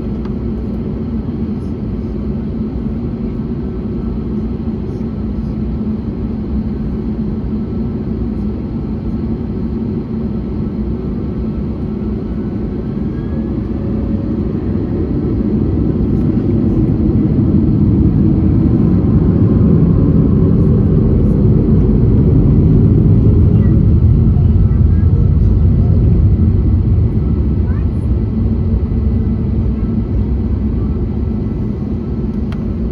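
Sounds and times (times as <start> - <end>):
jet engines rumbling: 0.0 - 32.9.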